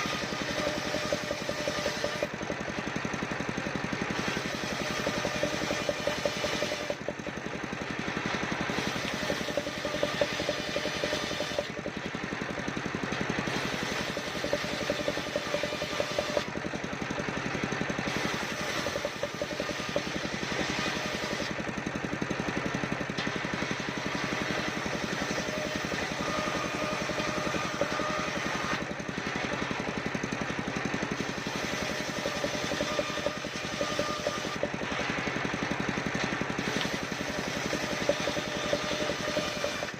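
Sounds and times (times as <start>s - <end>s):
engine-driven saw mill running: 0.0s - 39.9s
saw blade cutting wood: 0.0s - 39.9s.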